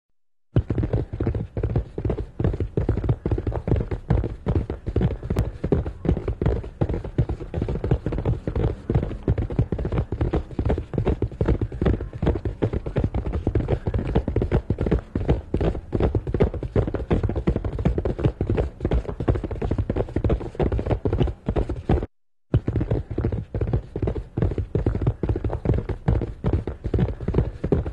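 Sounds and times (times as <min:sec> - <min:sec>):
horse hoofbeats galloping: 0:00.5 - 0:27.9.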